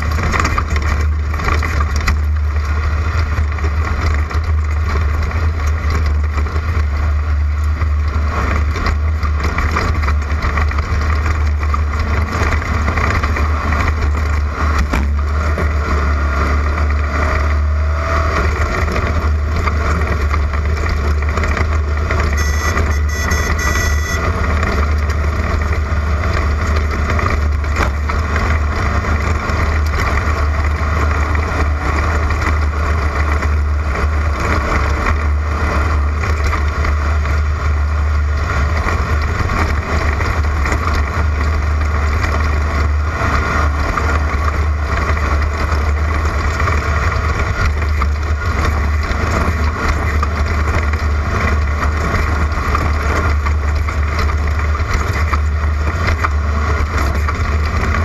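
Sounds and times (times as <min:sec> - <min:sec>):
race car engine drone: 0:00.0 - 0:58.0
rough road noise: 0:00.0 - 0:58.0.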